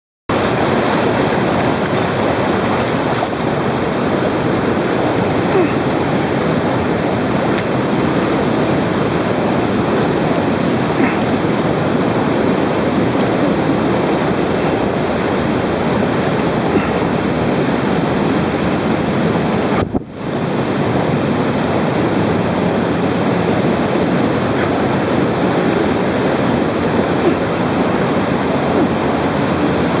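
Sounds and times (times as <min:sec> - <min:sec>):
river water rushing through gorge: 0:00.3 - 0:30.0.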